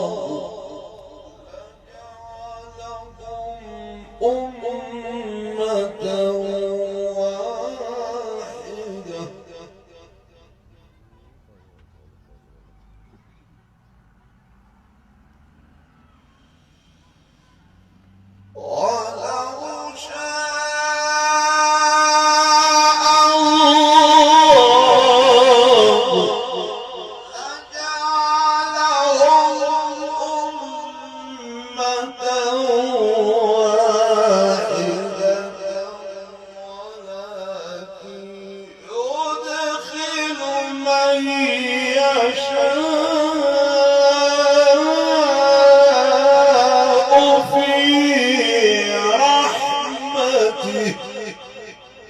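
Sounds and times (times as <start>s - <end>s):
man chanting melodically: 0.0s - 12.6s, 16.8s - 52.0s.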